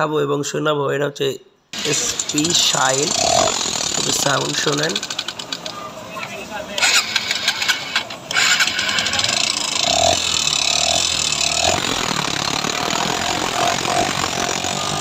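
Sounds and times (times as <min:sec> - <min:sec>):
engine ticking clatter: 0:01.8 - 0:05.9, 0:06.9 - 0:15.0.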